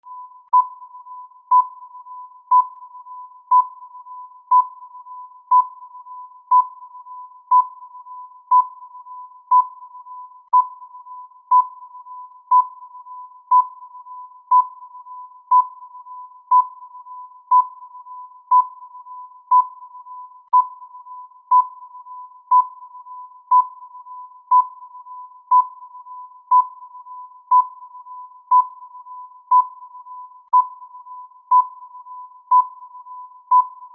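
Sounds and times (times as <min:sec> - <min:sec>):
electronic countdown timer beeps: 0:00.0 - 0:33.9.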